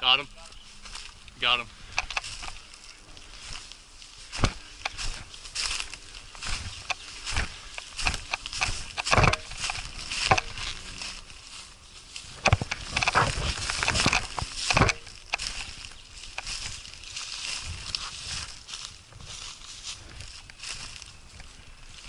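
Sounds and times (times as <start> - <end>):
rustling footsteps through brush: 0.0 - 22.0.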